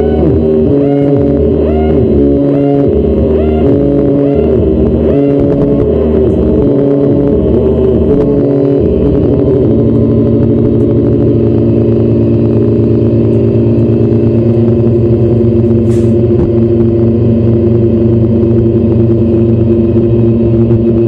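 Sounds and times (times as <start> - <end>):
buzzy synth drone with flutter: 0.0 - 21.0.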